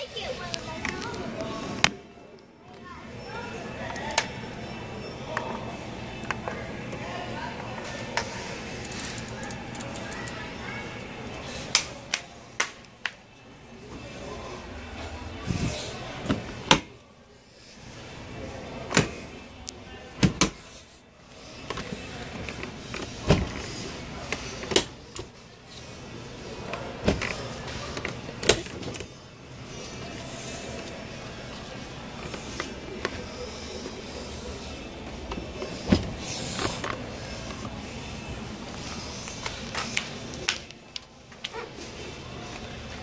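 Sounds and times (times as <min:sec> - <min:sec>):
steady background hum: 0:00.0 - 0:43.0.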